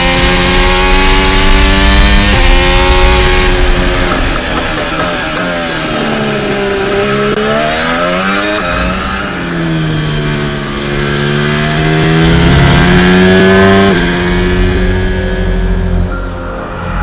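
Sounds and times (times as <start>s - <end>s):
racing car engine at high revs: 0.0s - 17.0s.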